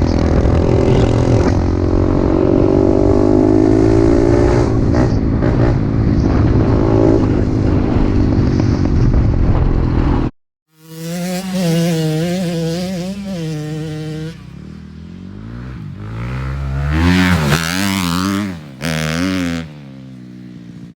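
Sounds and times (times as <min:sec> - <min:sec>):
small motorcycle engine revving: 0:00.0 - 0:08.3, 0:10.7 - 0:21.0.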